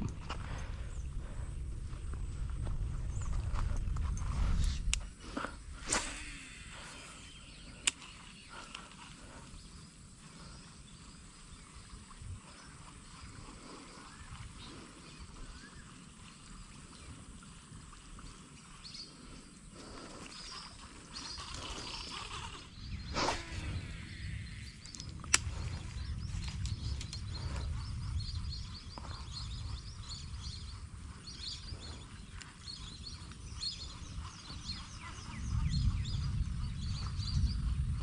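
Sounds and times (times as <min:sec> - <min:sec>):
small birds chirping: 0:03.0 - 0:37.9.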